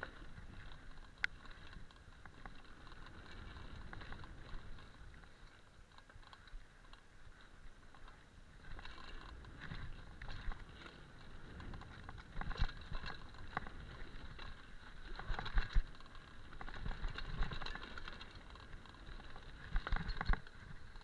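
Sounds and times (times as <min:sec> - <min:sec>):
bike knocking and rattling: 0:00.0 - 0:21.0
bike tyres on dirt trail: 0:00.0 - 0:21.0.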